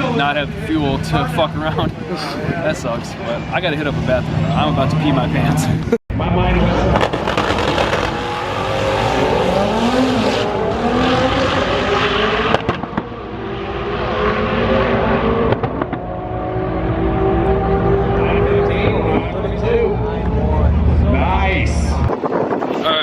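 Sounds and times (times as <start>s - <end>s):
car engines revving: 0.0s - 22.6s.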